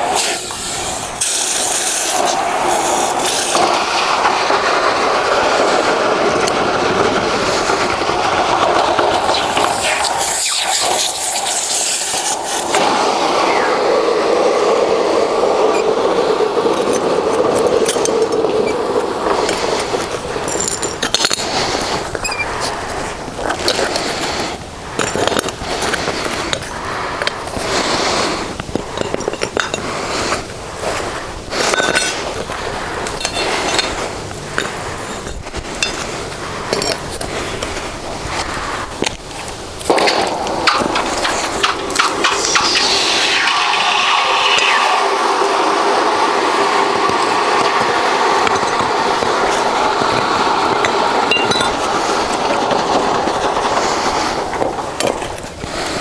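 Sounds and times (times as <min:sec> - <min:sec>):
furnace burner rushing: 0:00.0 - 0:56.0.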